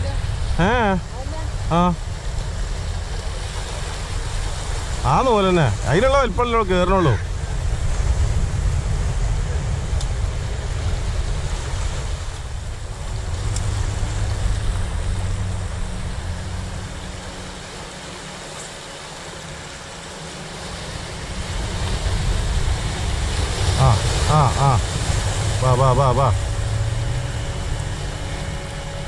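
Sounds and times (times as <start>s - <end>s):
wind rumble on microphone: 0.0s - 18.5s, 20.3s - 29.0s
small waves breaking over rocks: 0.0s - 26.9s.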